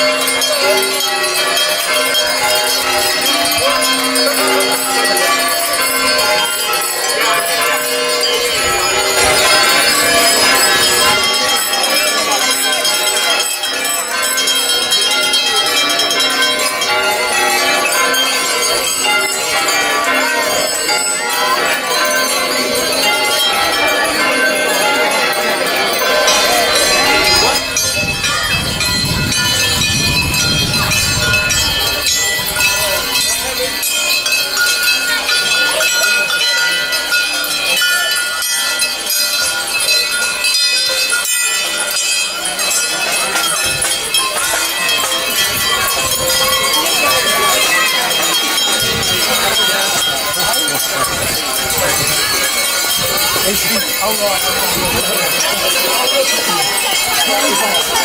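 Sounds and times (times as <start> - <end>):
many bells ringing: 0.0 - 58.0
voices: 0.0 - 58.0.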